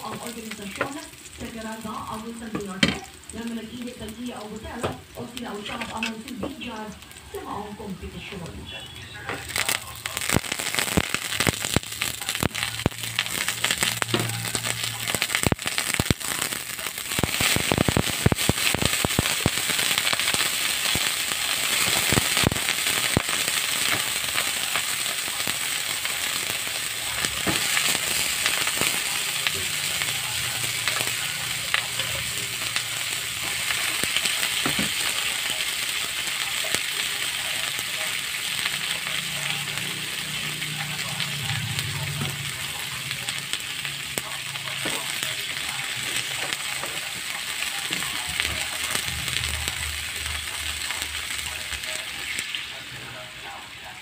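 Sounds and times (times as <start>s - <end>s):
oil crackling and popping: 0.0s - 8.4s, 9.0s - 53.6s
crabs frying in hot oil: 0.0s - 54.0s.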